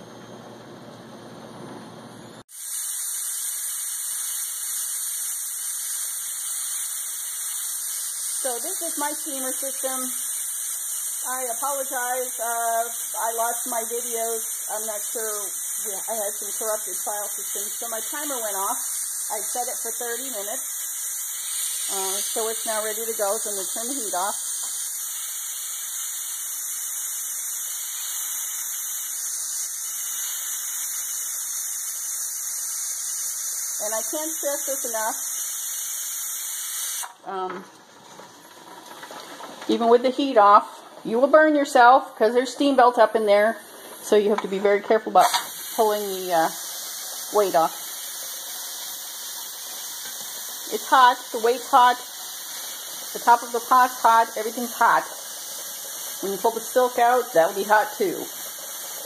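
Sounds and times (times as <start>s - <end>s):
loud high steam hiss: 2.4s - 39.0s, 40.0s - 59.0s
steam hissing from pressure canner: 2.4s - 59.0s.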